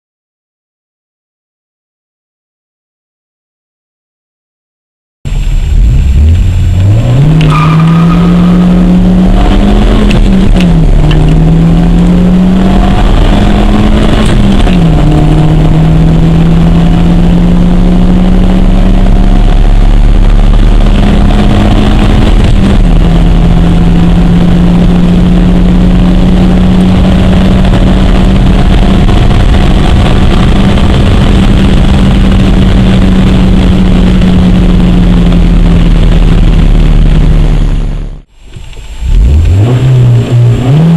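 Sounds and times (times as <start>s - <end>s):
car engine accelerating: 5.3s - 40.9s.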